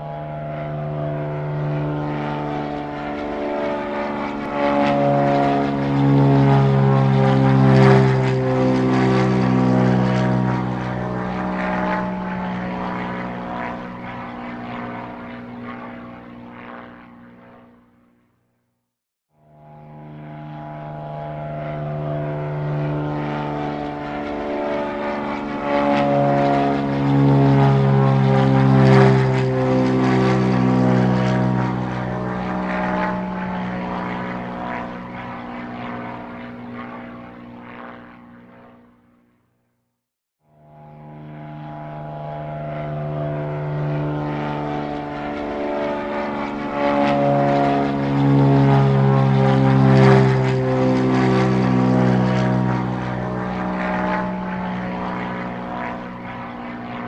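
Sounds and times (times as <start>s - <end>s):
propeller airplane flying past: 0.0s - 18.4s, 19.4s - 39.5s, 40.5s - 57.0s.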